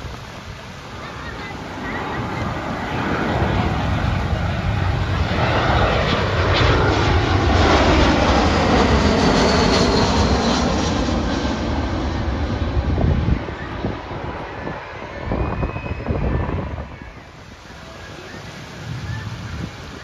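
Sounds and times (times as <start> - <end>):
jet engines passing overhead: 0.0 - 20.0.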